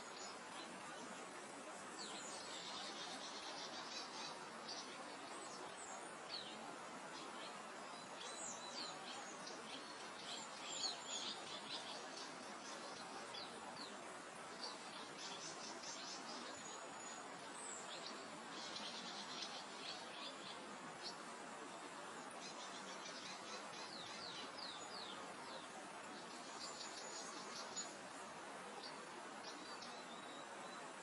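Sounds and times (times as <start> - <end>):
small birds chirping: 0.0 - 31.0
wind through grassland: 0.0 - 31.0.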